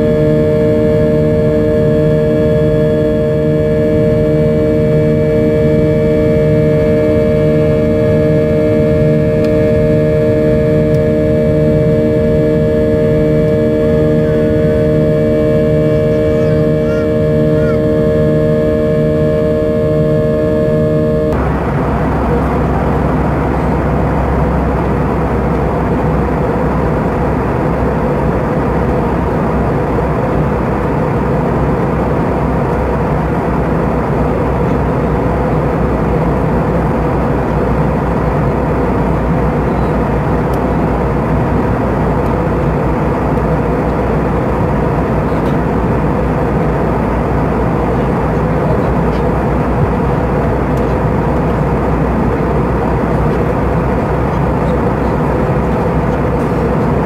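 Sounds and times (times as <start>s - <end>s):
airplane cabin roar: 0.0s - 57.0s.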